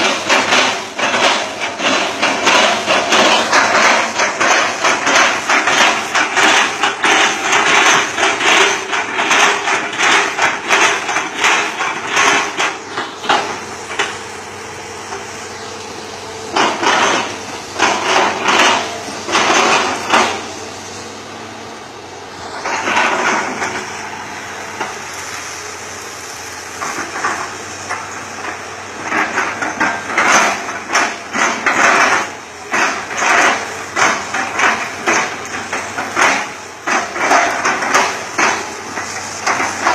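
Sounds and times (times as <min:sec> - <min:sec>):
excavator engine drone: 0:00.0 - 0:39.9.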